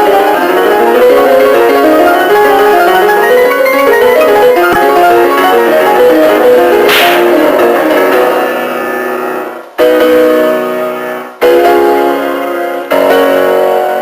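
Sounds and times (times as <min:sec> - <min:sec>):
fast piano music: 0:00.0 - 0:14.0.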